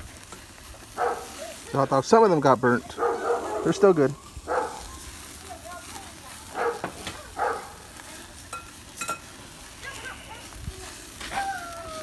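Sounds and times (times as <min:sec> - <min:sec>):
burgers sizzling on a grill: 0:00.0 - 0:12.0.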